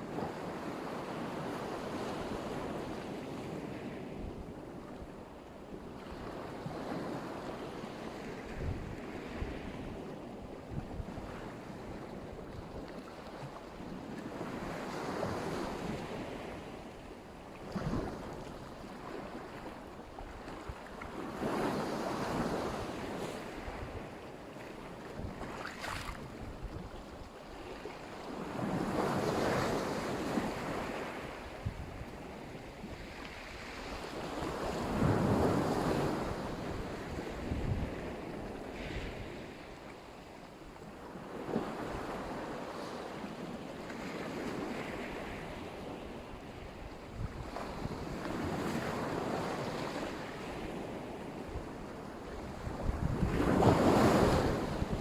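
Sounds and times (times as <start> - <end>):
wind rumbling on microphone: 1.2 - 39.8, 44.1 - 55.0.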